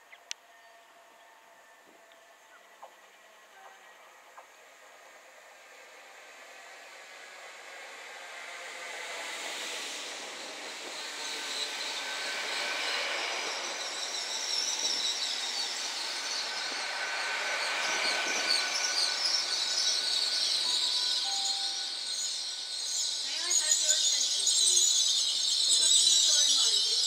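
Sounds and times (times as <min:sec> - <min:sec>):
high squeal of train brakes: 0:00.5 - 0:27.0.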